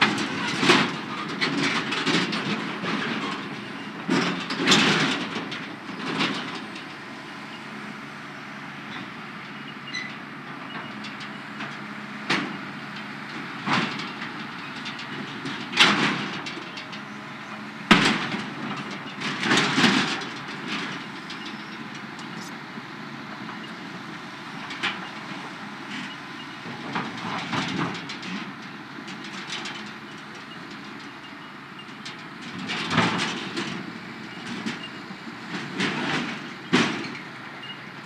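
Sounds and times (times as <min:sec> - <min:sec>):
excavator engine running: 0:00.0 - 0:38.0.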